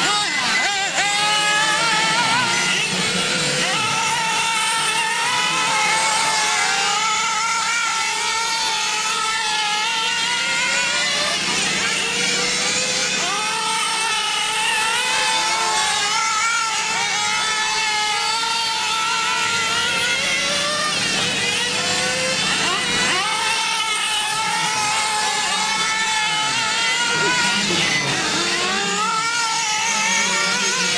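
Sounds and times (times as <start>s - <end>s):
rc car engines revving high: 0.0s - 30.9s.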